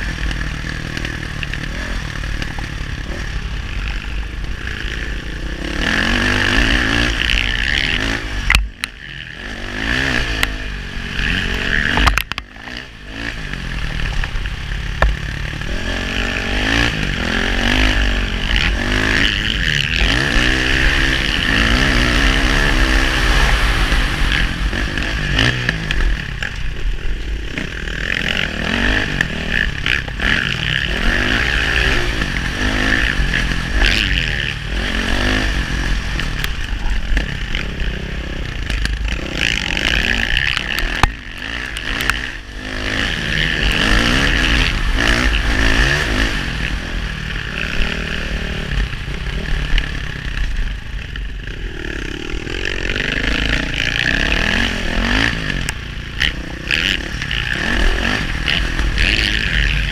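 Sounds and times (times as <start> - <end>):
clatter and scraping over ground: 0.0 - 59.9
dirt bike engine revving: 0.0 - 59.9.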